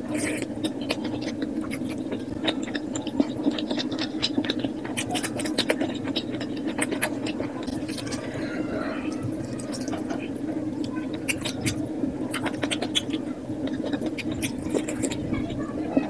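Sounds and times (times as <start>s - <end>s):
wet chewing clicks and smacks: 0.0s - 16.0s.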